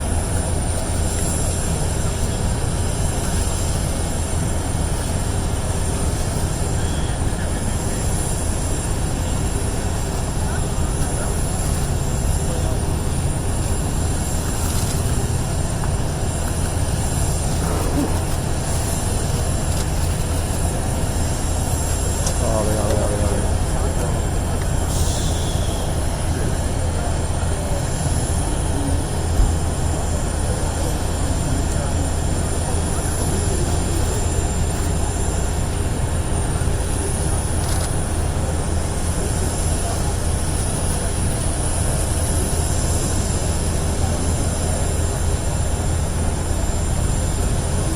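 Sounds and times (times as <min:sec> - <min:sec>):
aircraft engine rumble: 0:00.0 - 0:47.9
thin high whine: 0:00.0 - 0:47.9.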